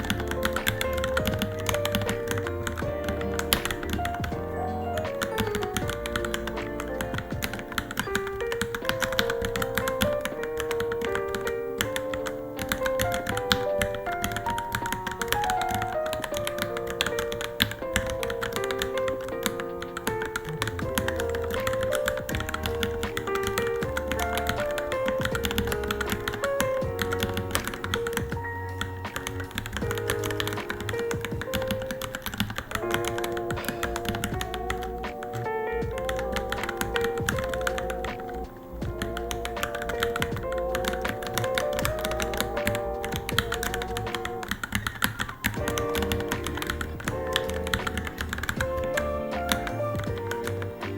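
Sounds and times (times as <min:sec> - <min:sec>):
background music: 0:00.0 - 0:50.9
mechanical keyboard typing: 0:00.0 - 0:50.9.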